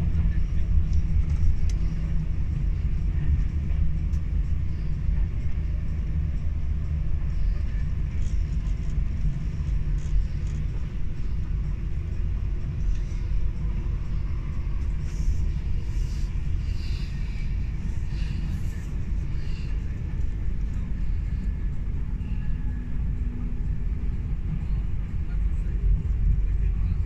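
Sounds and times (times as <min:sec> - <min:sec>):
train rumbling at speed: 0:00.0 - 0:27.0.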